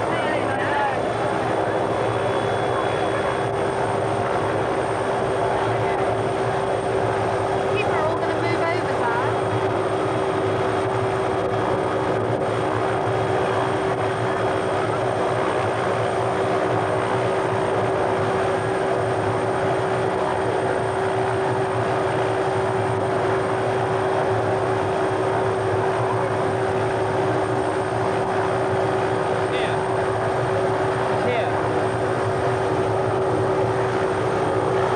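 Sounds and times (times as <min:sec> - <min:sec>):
continuous rushing noise: 0:00.0 - 0:34.9
helicopter engine whine: 0:00.0 - 0:34.9.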